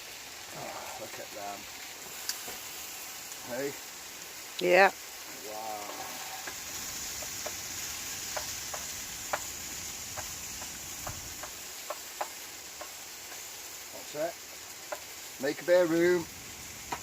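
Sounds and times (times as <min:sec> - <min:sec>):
mushrooms sizzling in a pan: 0:00.0 - 0:17.0
spitting fat crackles and pops: 0:00.4 - 0:17.0.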